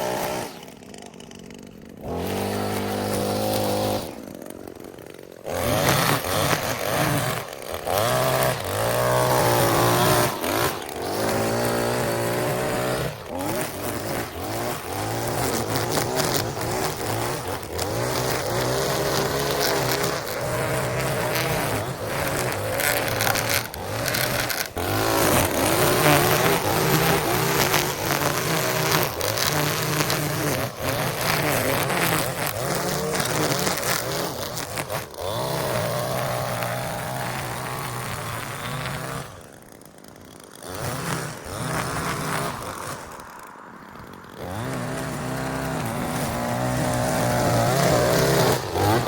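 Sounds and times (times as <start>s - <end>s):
small petrol engine running: 0.0s - 49.0s.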